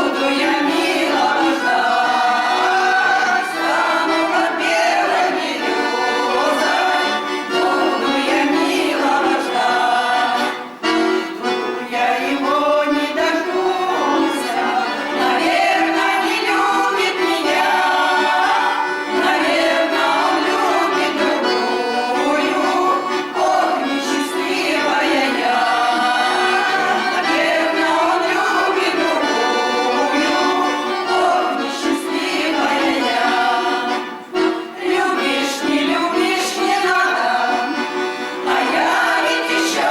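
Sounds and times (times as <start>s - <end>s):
accordion music: 0.0s - 39.9s
voices singing along: 0.0s - 39.9s.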